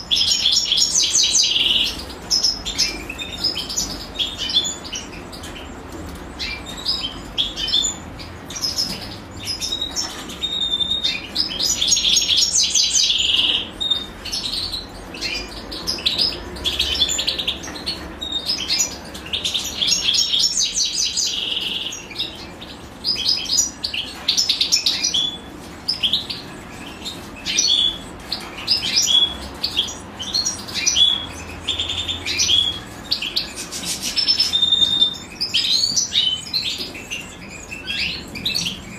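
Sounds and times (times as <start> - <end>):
finches chirping: 0.0 - 38.9
nestlings begging: 0.0 - 38.9.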